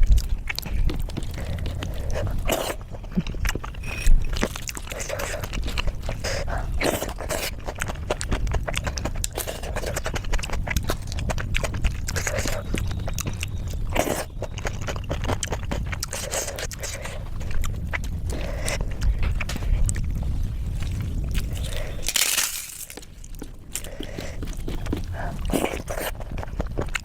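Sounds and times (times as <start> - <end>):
chewing and wet mouth clicks: 0.0 - 27.0
steady low hum: 0.0 - 27.0.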